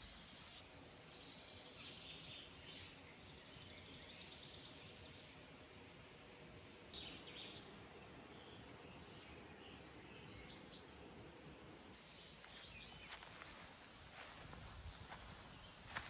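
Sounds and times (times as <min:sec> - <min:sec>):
songbirds chirping: 0:00.0 - 0:16.0
steady background hiss: 0:00.0 - 0:16.0.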